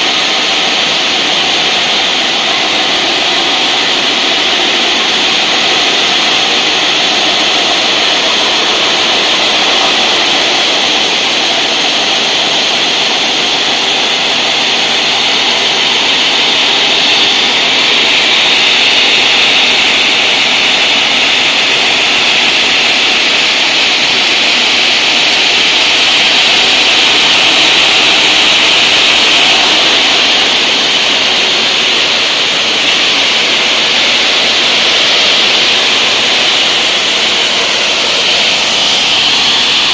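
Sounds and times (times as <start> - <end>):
circular saw cutting stone: 0.0 - 39.9
water spray: 0.0 - 39.9.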